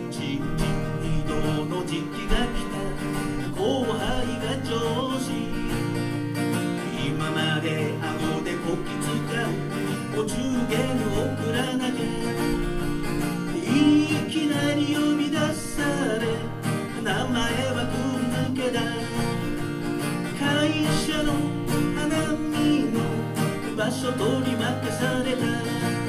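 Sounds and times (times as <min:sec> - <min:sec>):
acoustic guitar strummed and picked: 0:00.0 - 0:26.0.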